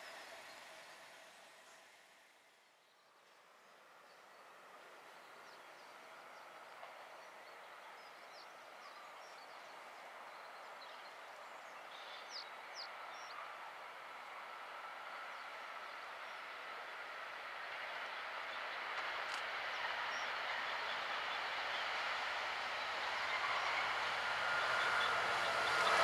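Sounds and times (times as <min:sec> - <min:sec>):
diesel locomotive approaching: 0:00.0 - 0:26.0.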